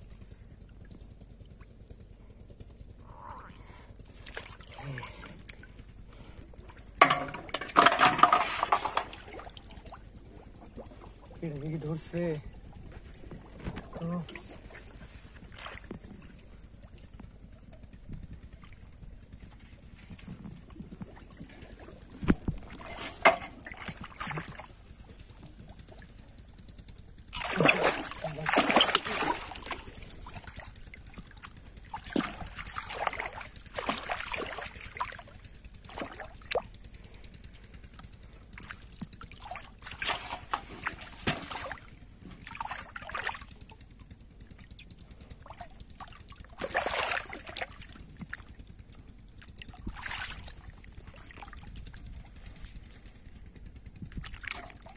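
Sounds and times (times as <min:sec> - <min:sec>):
fish splashing in water: 0:03.6 - 0:54.9.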